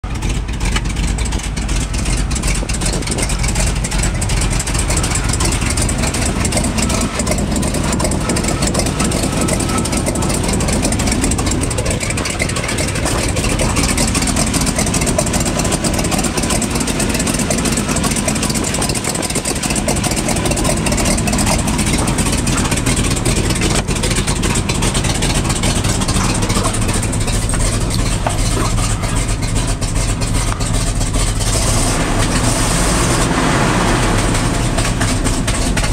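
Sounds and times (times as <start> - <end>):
truck engine idling: 0.0 - 35.9.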